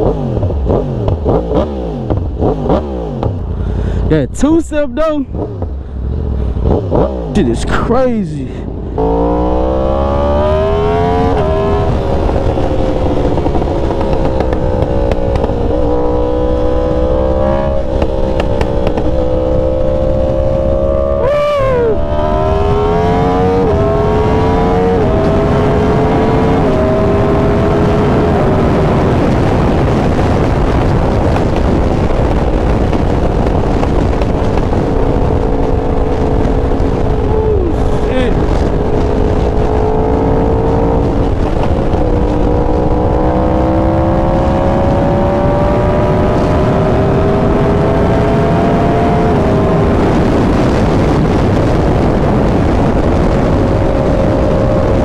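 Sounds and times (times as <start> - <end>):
motorcycle engine accelerating: 0.0 - 55.0
wind rushing: 0.0 - 55.0.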